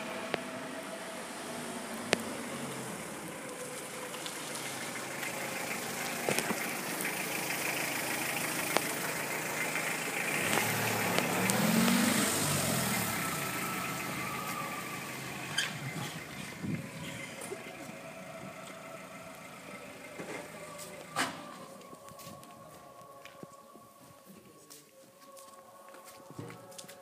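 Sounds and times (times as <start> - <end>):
car passing by: 0.0 - 21.9.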